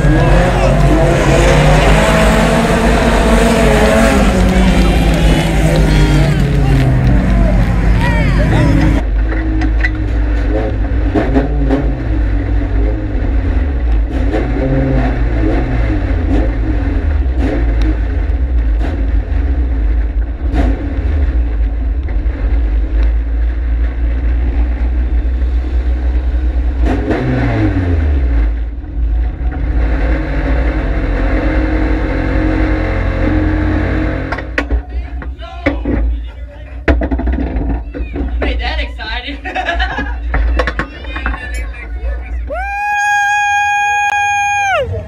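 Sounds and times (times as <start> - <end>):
race car engine revving: 0.0 - 36.1.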